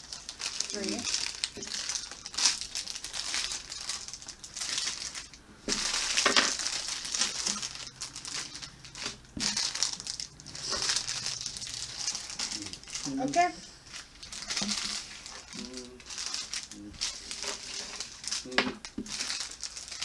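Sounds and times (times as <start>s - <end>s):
plastic wrappers crinkling: 0.0s - 20.0s.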